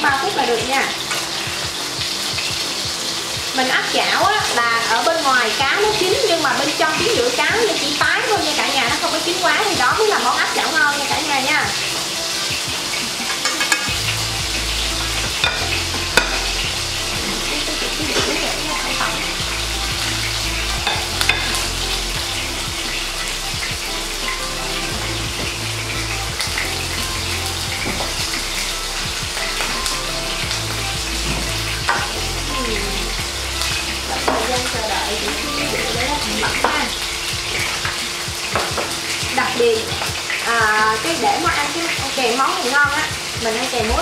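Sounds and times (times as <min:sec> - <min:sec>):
fish sizzling in a frying pan: 0:00.0 - 0:44.0.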